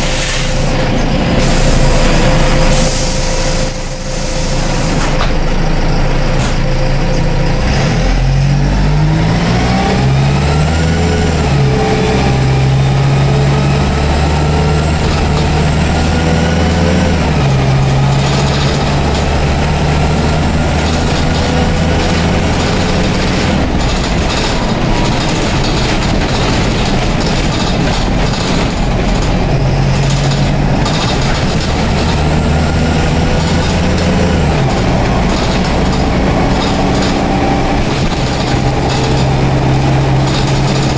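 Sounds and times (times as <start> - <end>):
bus diesel engine pulling hard: 0.0 - 40.9
gearbox whine: 0.0 - 40.9.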